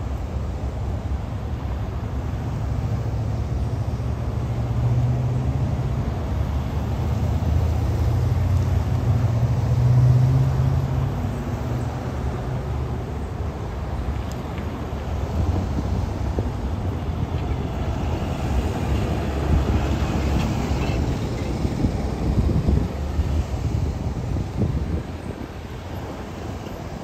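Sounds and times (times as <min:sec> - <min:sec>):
vehicles passing on road: 0:00.0 - 0:27.0.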